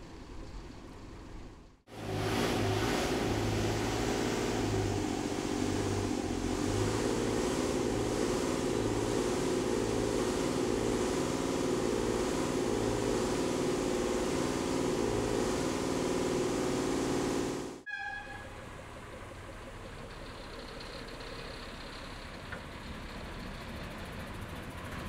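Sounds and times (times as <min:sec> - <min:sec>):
electric tram humming: 0:00.0 - 0:25.0.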